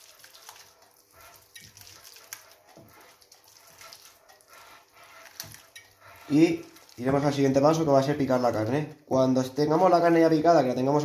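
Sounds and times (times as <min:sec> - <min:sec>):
spoon stirring thick dressing: 0:00.0 - 0:11.0.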